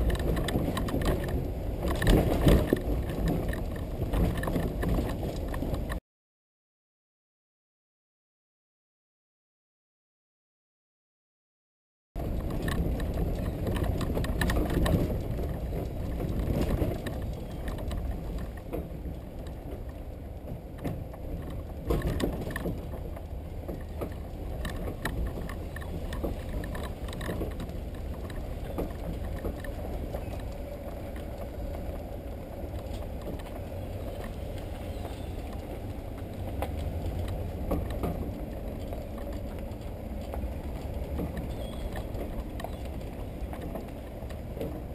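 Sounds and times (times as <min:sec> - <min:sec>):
towed trailer rumbling on gravel: 0:00.0 - 0:06.0, 0:12.2 - 0:44.9
trailer and hull rattling: 0:00.0 - 0:06.0, 0:12.2 - 0:44.9.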